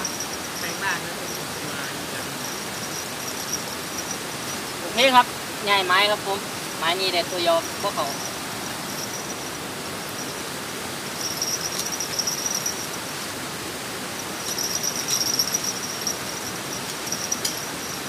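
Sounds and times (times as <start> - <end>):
insects trilling: 0.0 - 18.0
steady outdoor hiss: 0.0 - 18.0.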